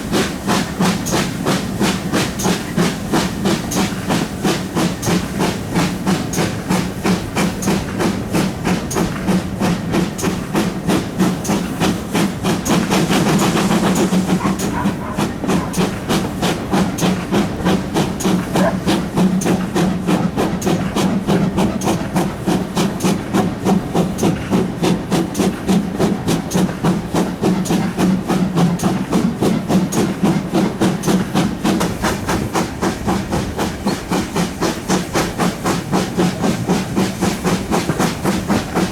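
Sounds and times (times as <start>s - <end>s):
steam hiss: 0.0s - 38.9s
steam locomotive exhaust beats: 0.0s - 38.9s.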